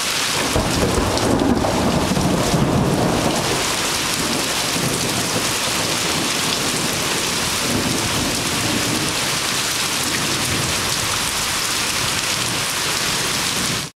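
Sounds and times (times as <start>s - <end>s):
heavy rain falling: 0.0s - 13.9s
low rumble of thunder: 0.4s - 13.9s.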